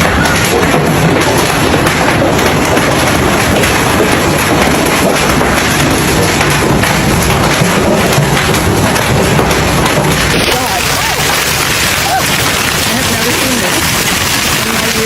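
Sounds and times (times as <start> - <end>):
hailstones clattering: 0.0 - 15.0
heavy rain: 0.0 - 15.0.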